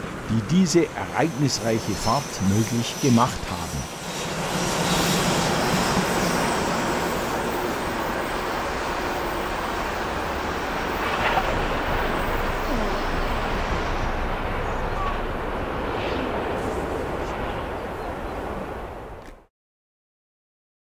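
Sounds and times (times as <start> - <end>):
steam locomotive rumbling: 0.0 - 19.2.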